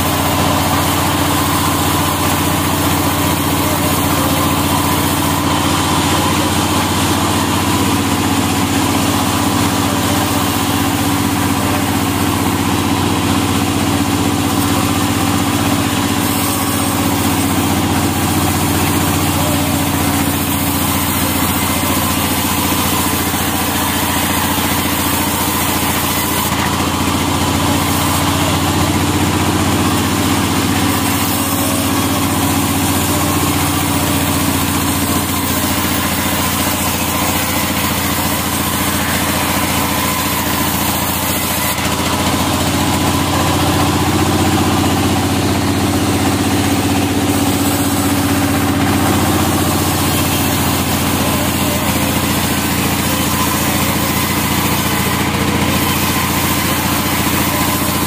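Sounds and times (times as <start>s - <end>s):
band saw cutting log: 0.0s - 58.0s.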